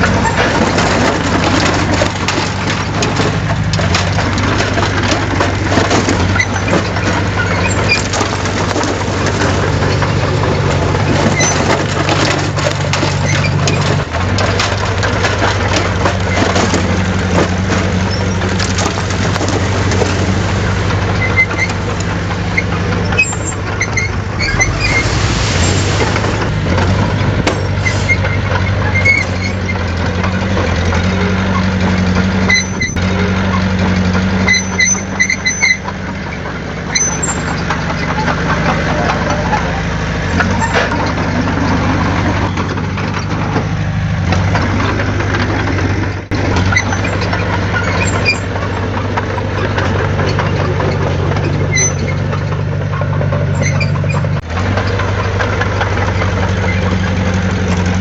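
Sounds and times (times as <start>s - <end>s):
crackling and rattling: 0.0s - 58.0s
heavy machinery diesel engine: 0.0s - 58.0s.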